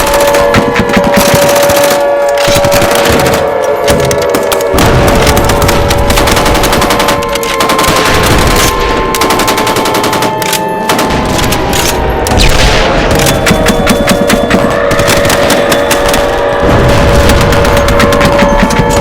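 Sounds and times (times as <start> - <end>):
loud alarm tones: 0.0 - 19.0
rapid gunfire-like bangs: 0.0 - 19.0.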